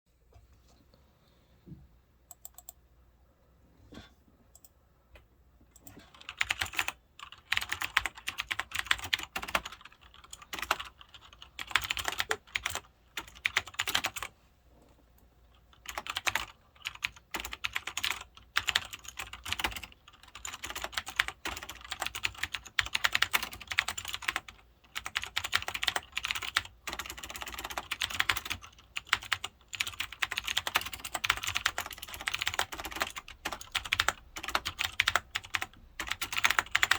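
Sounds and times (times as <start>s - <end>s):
typing on mechanical keyboard: 5.8s - 14.3s, 15.5s - 36.9s.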